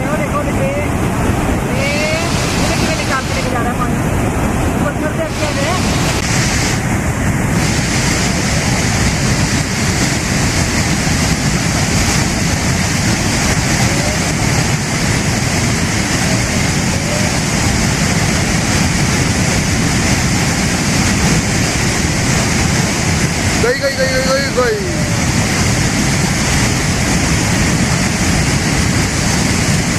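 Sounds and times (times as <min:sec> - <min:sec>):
flooded river rushing: 0:00.0 - 0:29.9.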